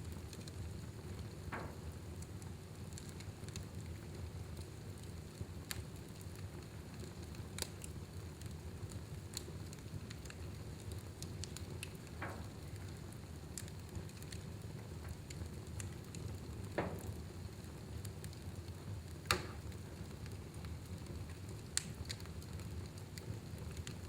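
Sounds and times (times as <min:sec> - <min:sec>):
fire burning with crackles: 0:00.0 - 0:24.0.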